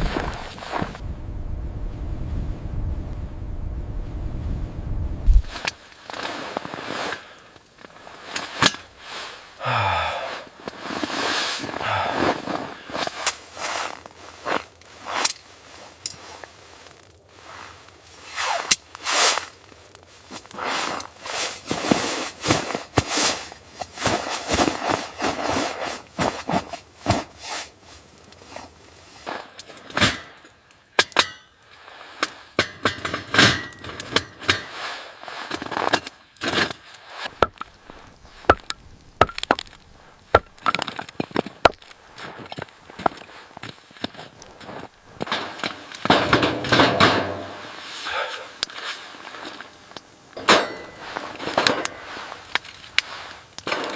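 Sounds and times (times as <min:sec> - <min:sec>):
rustling: 0:00.0 - 0:01.1, 0:05.2 - 0:53.9.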